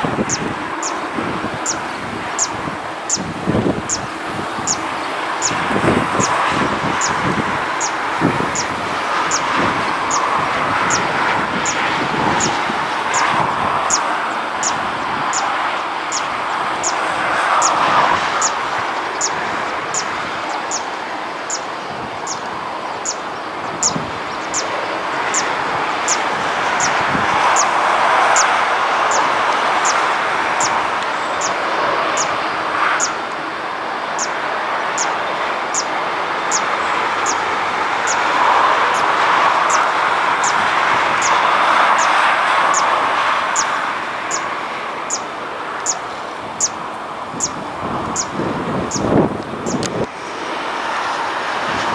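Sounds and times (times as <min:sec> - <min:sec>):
jet engines hissing: 0:00.0 - 0:51.9.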